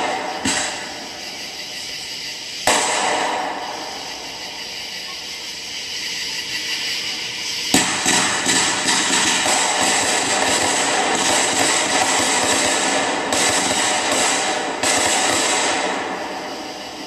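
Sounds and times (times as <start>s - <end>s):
fireworks bangs: 0.0s - 17.0s
steady hiss: 0.0s - 17.0s.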